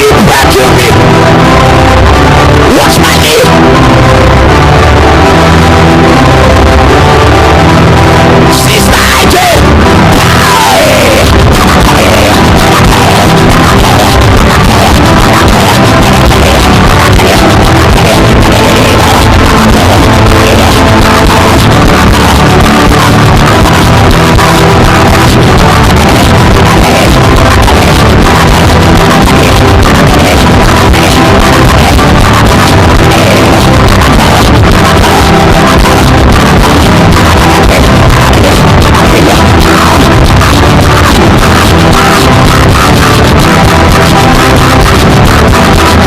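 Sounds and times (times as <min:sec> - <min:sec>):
loud dense music: 0:00.0 - 0:46.0.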